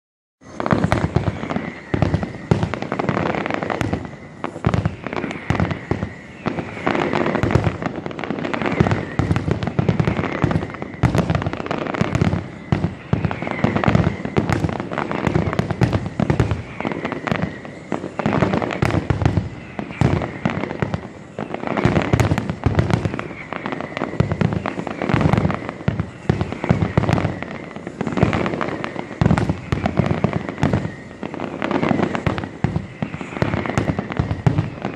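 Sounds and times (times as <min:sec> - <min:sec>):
fireworks bangs and crackling: 0:00.4 - 0:34.9.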